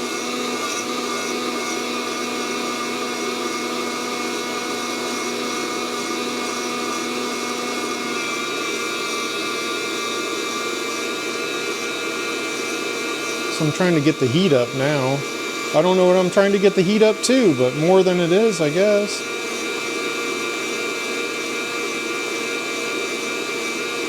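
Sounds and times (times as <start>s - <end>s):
coffee roaster fan hum: 0.0s - 24.0s.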